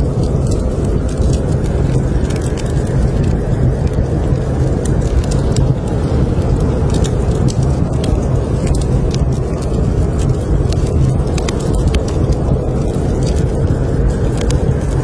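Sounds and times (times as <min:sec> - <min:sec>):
blizzard wind rumbling: 0:00.0 - 0:15.0
wood fire crackling: 0:00.0 - 0:15.0.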